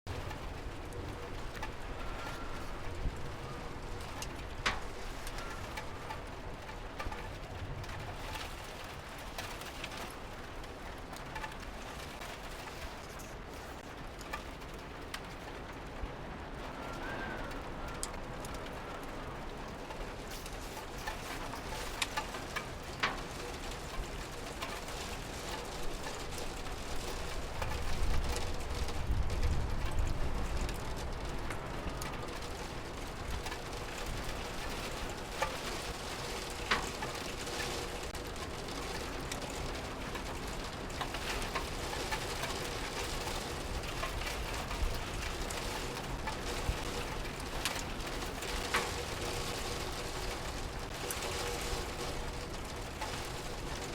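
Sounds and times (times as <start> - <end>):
rain pattering: 0.1 - 53.9.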